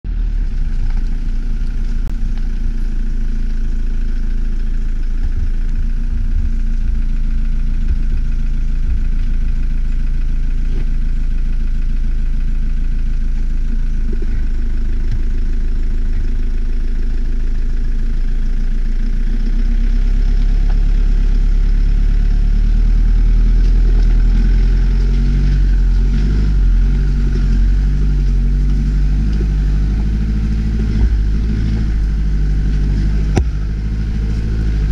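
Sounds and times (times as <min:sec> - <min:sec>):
pickup engine driving slowly: 0:00.0 - 0:34.9.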